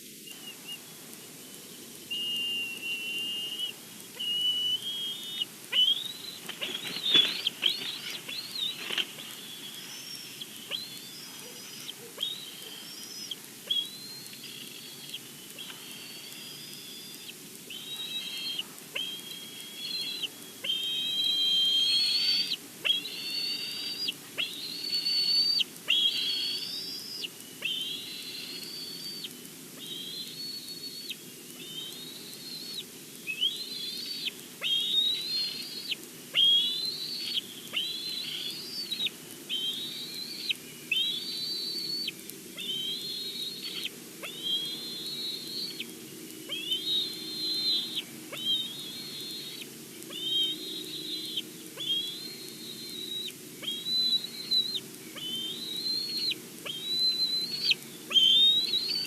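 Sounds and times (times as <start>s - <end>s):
eagle high whistled calls: 1.7s - 59.0s.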